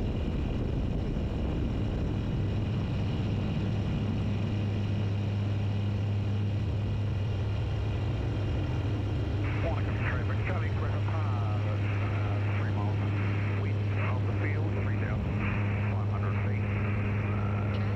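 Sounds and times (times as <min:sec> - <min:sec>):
airplane engine and propeller drone: 0:00.0 - 0:17.9.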